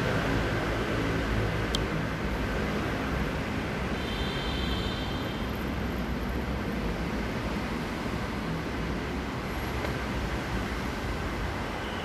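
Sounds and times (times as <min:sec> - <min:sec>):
low rumble of city and rail: 0:00.0 - 0:12.0.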